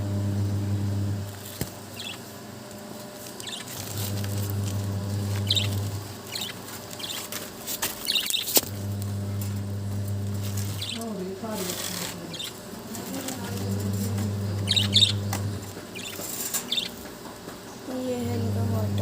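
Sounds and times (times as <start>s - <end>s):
low steady hum: 0.0s - 19.0s
cage birds chirping: 1.3s - 19.0s.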